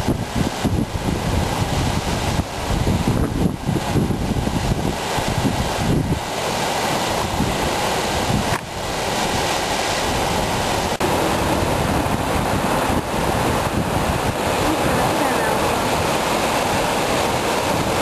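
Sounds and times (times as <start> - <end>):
surf breaking on rocks: 0.0 - 18.0
wind buffeting microphone: 0.0 - 18.0.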